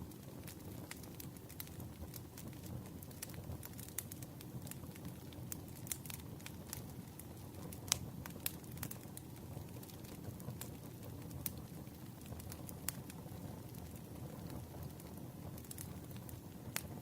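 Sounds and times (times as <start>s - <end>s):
low rumble of campfire: 0.0s - 17.0s
wood crackling and popping: 0.0s - 17.0s.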